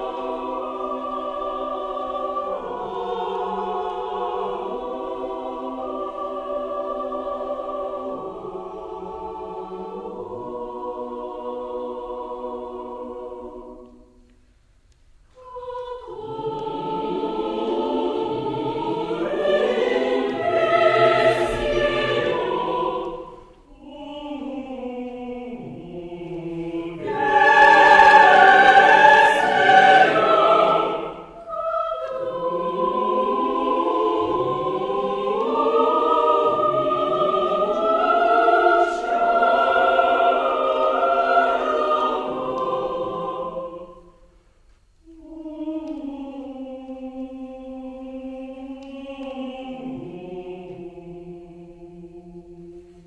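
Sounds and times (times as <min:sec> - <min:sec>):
choir singing sustained chords: 0:00.0 - 0:53.0.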